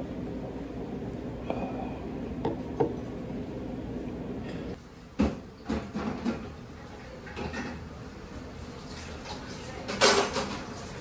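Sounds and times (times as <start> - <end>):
restaurant room hum: 0.0 - 11.0.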